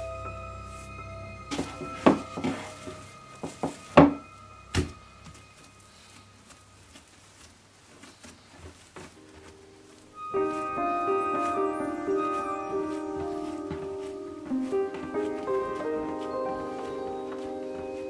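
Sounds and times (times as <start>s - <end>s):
dough rubbing by hand: 0.7s - 18.0s.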